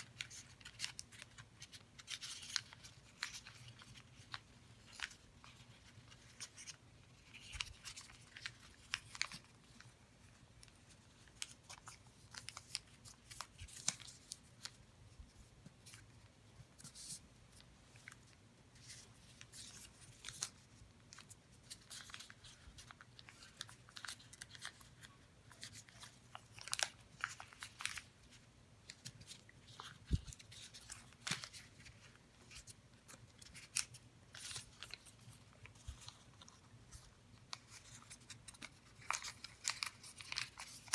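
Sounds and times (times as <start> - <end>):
paper rustling and crinkling: 0.0 - 40.9.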